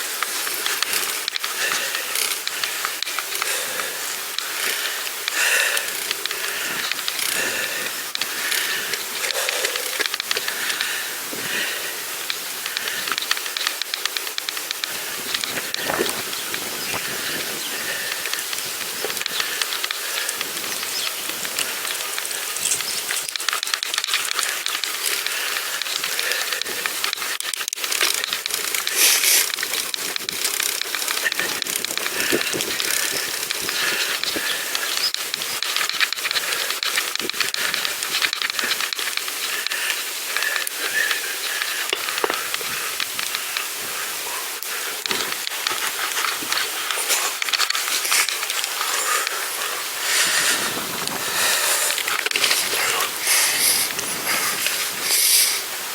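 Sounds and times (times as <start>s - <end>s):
bicycle rolling with crackling hiss: 0.0s - 55.9s.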